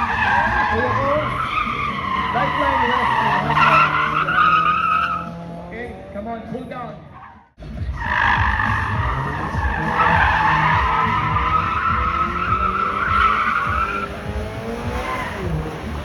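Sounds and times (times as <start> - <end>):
tyres squealing in a skid: 0.0 - 5.6, 7.0 - 16.0
car engine revving: 0.0 - 16.0.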